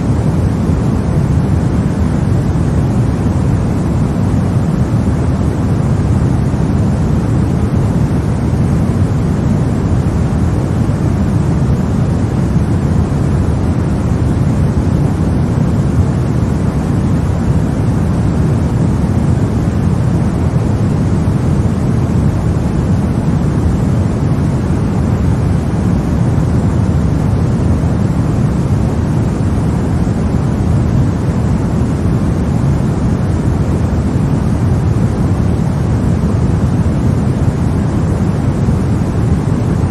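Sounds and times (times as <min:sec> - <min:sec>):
steady low white noise: 0:00.0 - 0:39.9.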